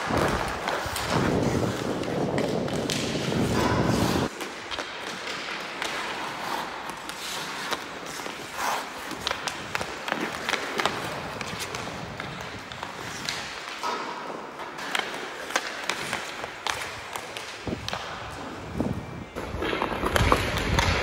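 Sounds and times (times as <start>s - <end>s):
hockey stick tapping puck: 0.0s - 18.4s, 19.5s - 21.0s
skate blades scraping ice: 0.0s - 21.0s.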